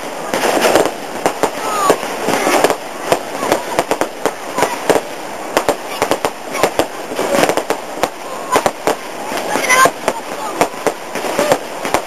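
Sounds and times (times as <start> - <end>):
fireworks bangs and cracks: 0.0 - 12.0
voices in background: 0.0 - 12.0.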